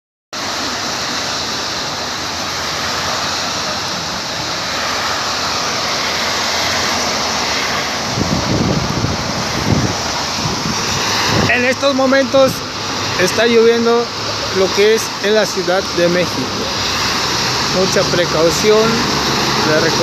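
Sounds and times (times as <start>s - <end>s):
heavy rain: 0.4s - 20.0s.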